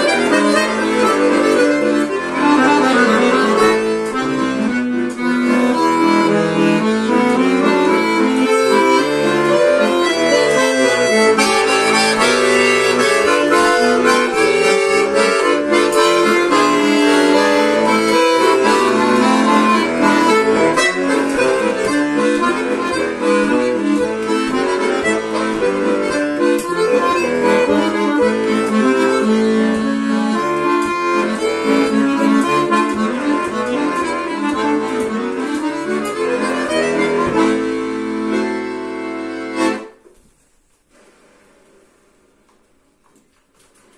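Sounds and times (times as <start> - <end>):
button accordion playing folk tune: 0.0 - 40.1.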